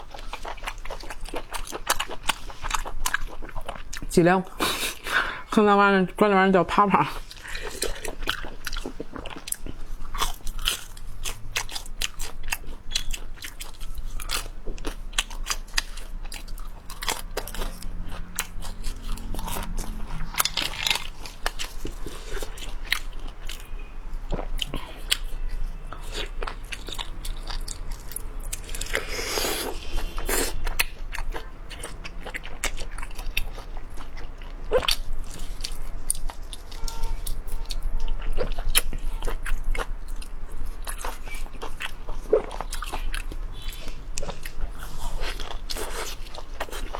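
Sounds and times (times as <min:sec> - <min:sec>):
person crunching and chewing: 0:00.0 - 0:05.3, 0:07.1 - 0:46.9.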